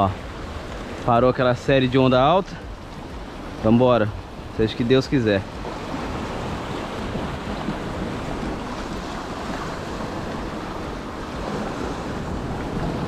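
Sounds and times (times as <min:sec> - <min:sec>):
surf washing between rocks: 0:00.0 - 0:13.0
wind buffeting microphone: 0:00.0 - 0:13.0.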